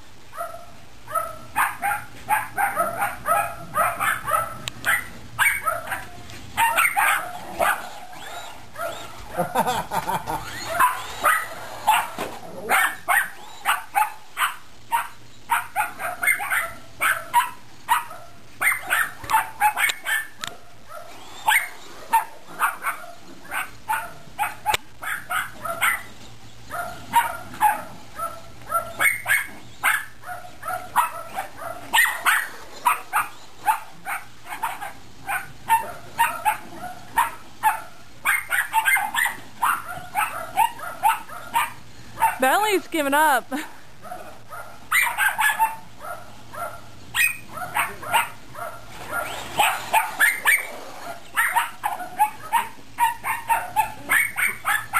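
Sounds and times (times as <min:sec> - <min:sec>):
dogs barking rapidly: 0:00.3 - 0:54.9.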